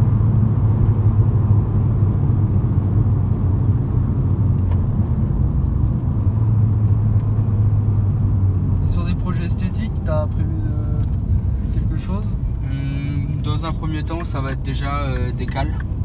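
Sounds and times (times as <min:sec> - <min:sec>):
car engine drone: 0:00.0 - 0:16.0
tyre road noise: 0:00.0 - 0:16.0.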